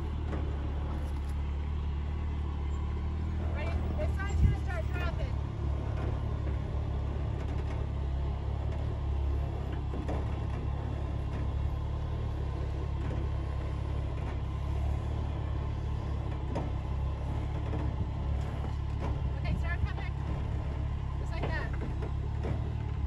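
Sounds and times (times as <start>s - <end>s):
engine rumbling at low revs: 0.0s - 23.0s.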